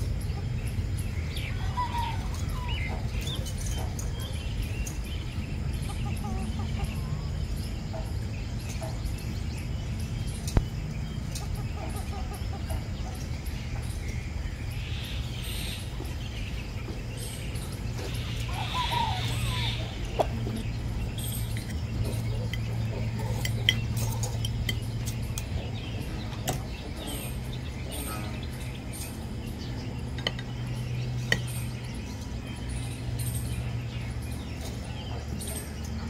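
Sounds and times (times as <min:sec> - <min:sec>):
birds chirping: 0:00.0 - 0:36.0
steady low hum: 0:00.0 - 0:36.0.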